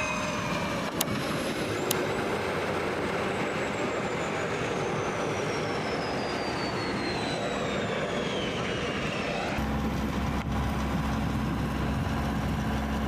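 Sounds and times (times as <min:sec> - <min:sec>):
jet engines with turbine whine: 0:00.0 - 0:13.0.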